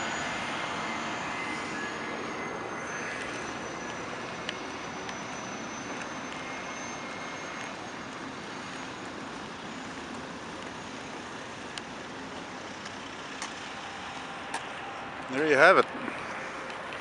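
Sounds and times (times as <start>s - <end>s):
cars driving past: 0.0s - 17.0s
faint high whine: 0.0s - 17.0s.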